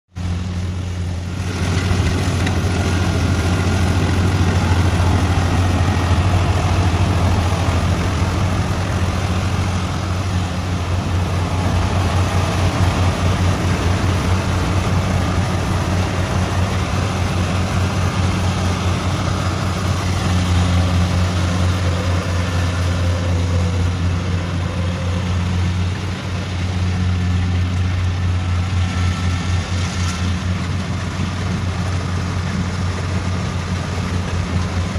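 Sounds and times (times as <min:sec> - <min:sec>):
engine drone: 0:00.1 - 0:34.9.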